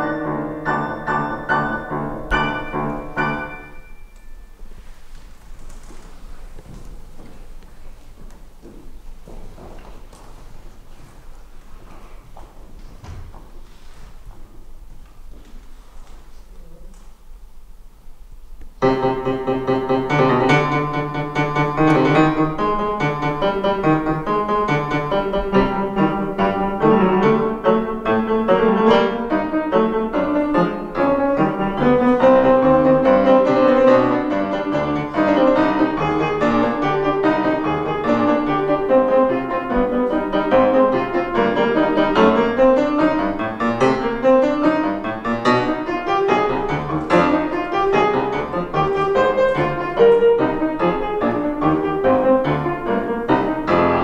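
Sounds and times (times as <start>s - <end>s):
grand piano four hands: 0.0s - 17.2s, 18.8s - 54.0s.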